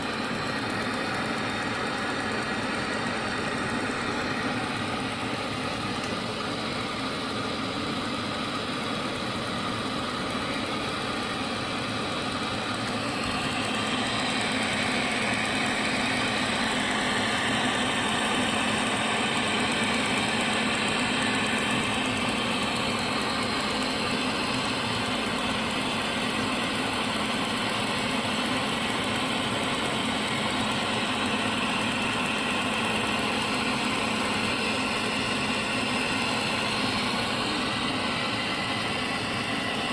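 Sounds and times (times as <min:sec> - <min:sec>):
welding machine humming and hissing: 0:00.0 - 0:39.9.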